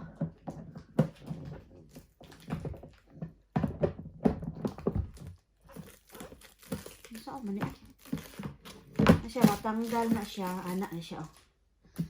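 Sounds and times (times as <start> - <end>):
hard plastic knocks and clatter: 0.0 - 10.9.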